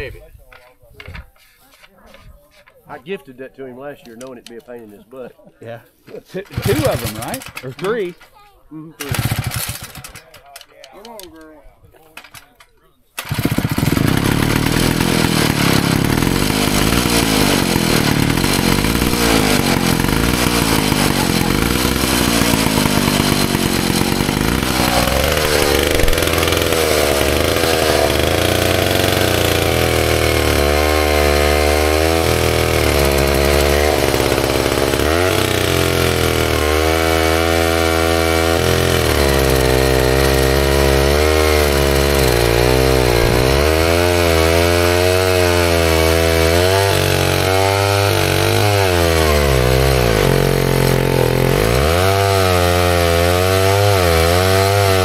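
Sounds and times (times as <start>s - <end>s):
saw chain cutting log: 6.1s - 8.4s, 9.0s - 11.4s, 13.2s - 55.0s
chainsaw engine running: 6.3s - 8.3s, 9.0s - 10.4s, 13.2s - 55.0s.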